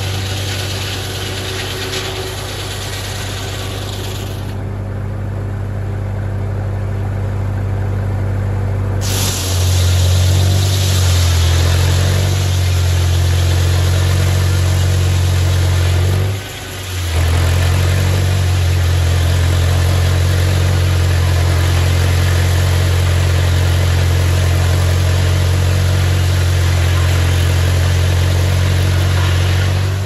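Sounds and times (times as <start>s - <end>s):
sawmill blade cutting wood: 0.0s - 4.6s, 9.0s - 30.0s
tractor engine running under load: 0.0s - 30.0s.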